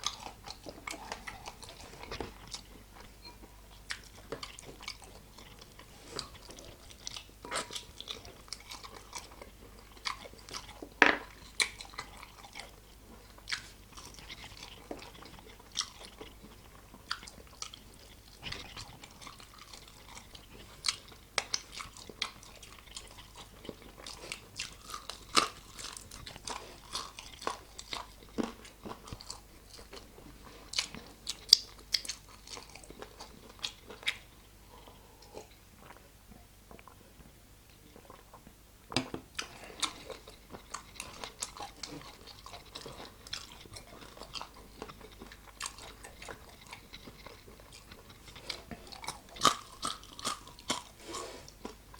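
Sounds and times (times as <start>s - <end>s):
person chewing chicken wings: 0.0s - 36.0s, 39.3s - 51.9s.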